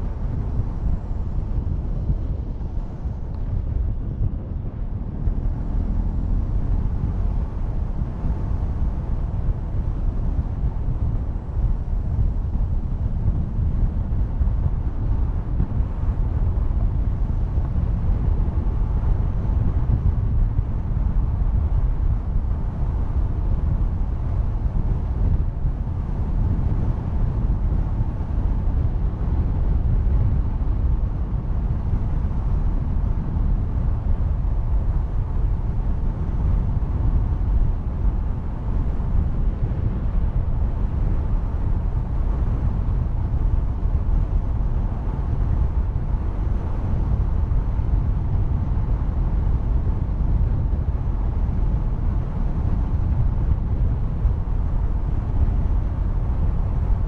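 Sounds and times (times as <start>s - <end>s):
motorcycle engine and road noise: 0.0s - 57.0s
wind rushing on microphone: 0.0s - 57.0s.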